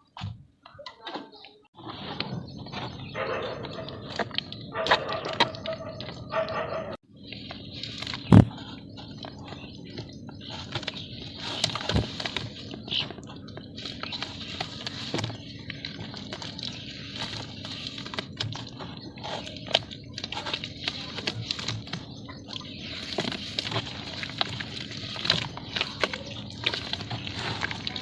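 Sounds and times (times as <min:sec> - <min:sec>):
dry dirt crumbling and crunching: 0:01.8 - 0:28.0.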